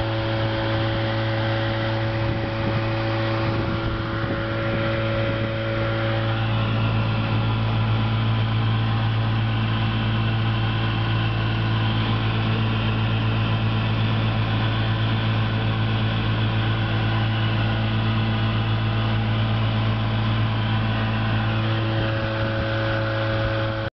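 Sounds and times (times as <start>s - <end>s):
outboard motor running: 0.0s - 23.9s.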